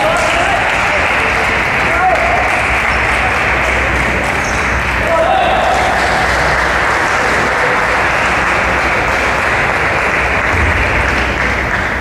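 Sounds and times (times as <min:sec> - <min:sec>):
spectators applauding: 0:00.0 - 0:12.0.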